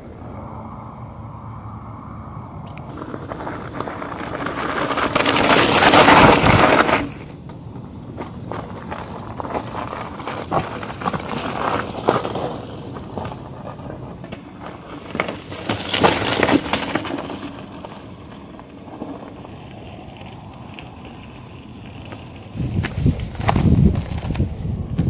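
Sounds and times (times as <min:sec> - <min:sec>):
bike tyres crunching gravel: 0:02.7 - 0:25.0
bike clattering: 0:02.9 - 0:25.0.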